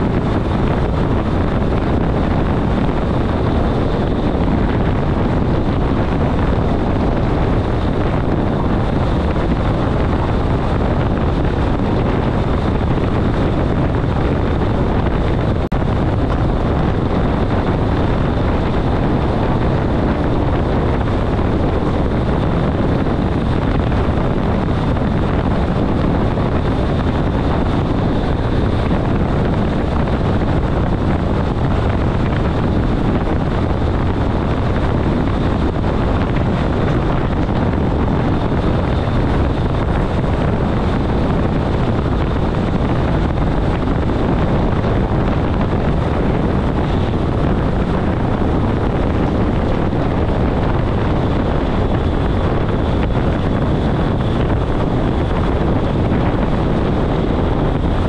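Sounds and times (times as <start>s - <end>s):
rushing air: 0.0s - 58.0s.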